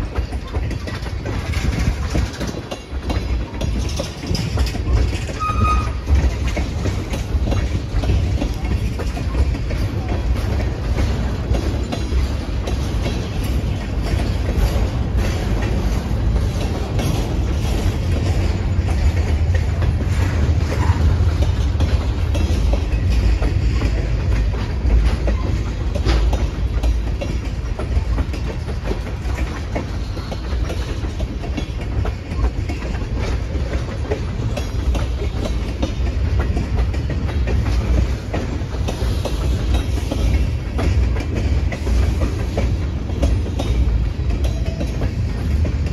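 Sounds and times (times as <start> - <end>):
train wheels rumbling on rail: 0.0 - 45.9
wheels clicking over rail joints: 0.0 - 45.9.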